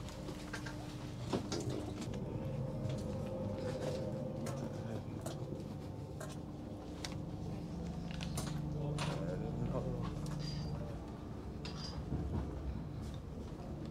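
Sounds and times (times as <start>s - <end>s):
train carriage hum: 0.0s - 13.9s.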